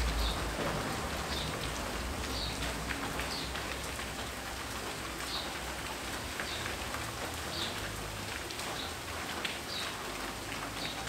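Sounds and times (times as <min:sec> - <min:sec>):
rain on foliage: 0:00.0 - 0:11.0.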